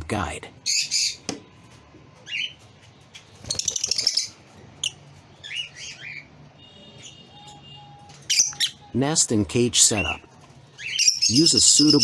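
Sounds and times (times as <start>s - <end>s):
lovebirds chirping and squawking: 0.6s - 9.0s, 9.8s - 12.0s.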